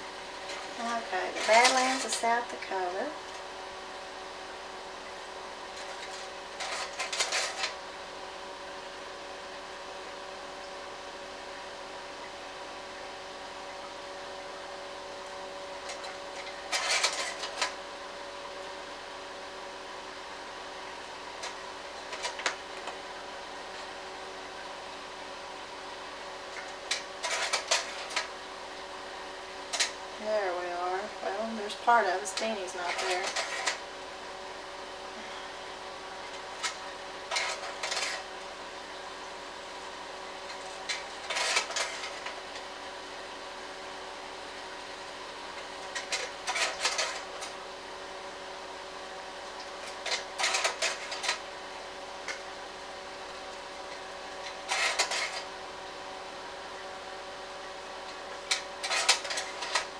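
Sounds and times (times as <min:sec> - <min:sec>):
projector cooling fan humming: 0:00.0 - 0:59.9.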